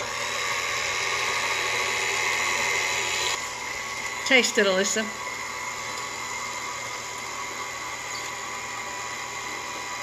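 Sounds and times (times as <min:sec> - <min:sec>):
stand mixer motor hum: 0:00.0 - 0:10.0.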